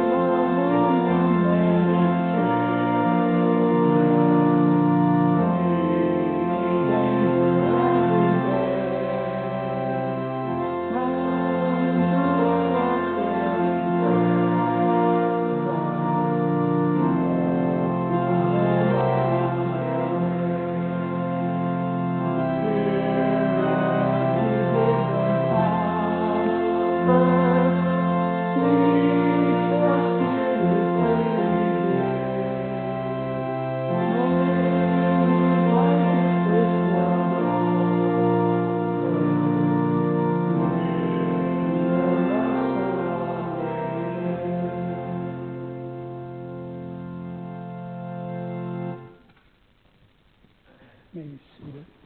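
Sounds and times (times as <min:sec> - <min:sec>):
church organ playing a hymn: 0:00.0 - 0:49.8.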